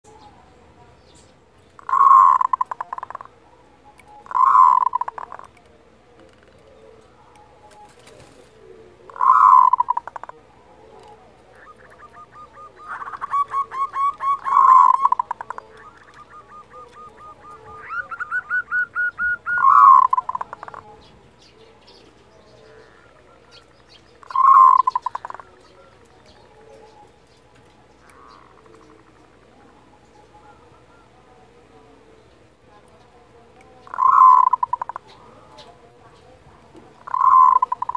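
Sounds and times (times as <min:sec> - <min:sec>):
dove rattling cooing call: 0:01.6 - 0:37.9.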